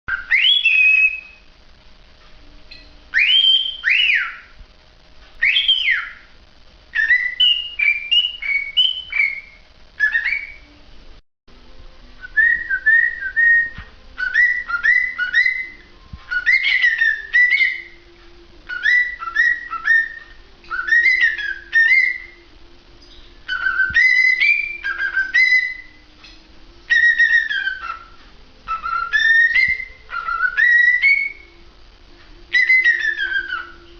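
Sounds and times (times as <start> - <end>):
cockatiel whistling: 0.1 - 1.5, 2.7 - 4.6, 5.4 - 6.3, 6.9 - 10.8, 12.2 - 22.4, 23.4 - 31.6, 32.5 - 33.9.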